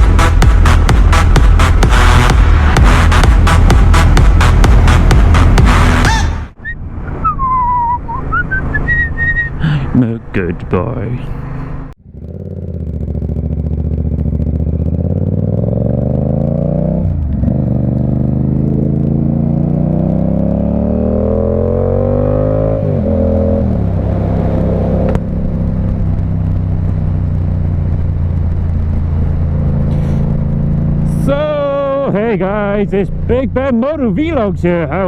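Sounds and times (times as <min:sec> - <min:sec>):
motorcycle engine revving: 0:00.0 - 0:09.9, 0:11.3 - 0:35.0.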